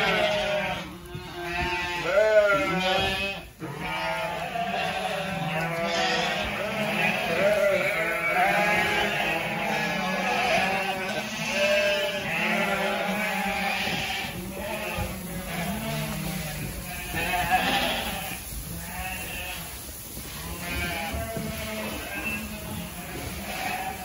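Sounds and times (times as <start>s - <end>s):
sheep bleating: 0.0s - 24.0s.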